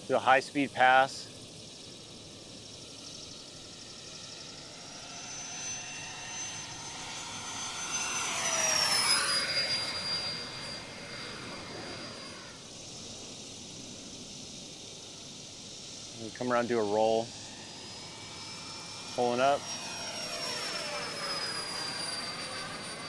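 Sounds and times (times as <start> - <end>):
model jet fan whining past: 0.0 - 23.0.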